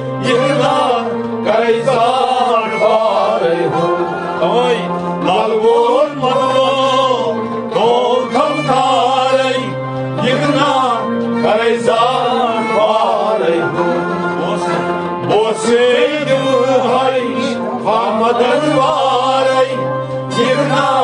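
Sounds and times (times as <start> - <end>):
instrumental accompaniment: 0.0 - 21.0
man singing devotional song: 0.0 - 21.0.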